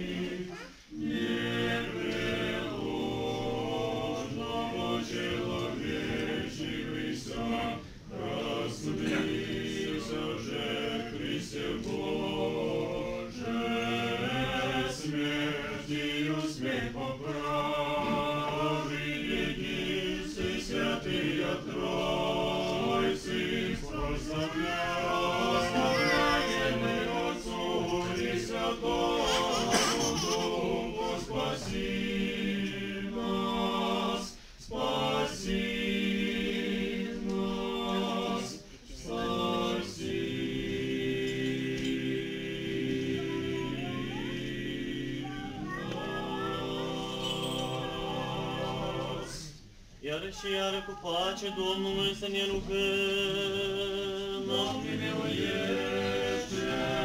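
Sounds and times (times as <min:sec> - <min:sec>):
choir singing a cappella chant: 0:00.0 - 0:57.0.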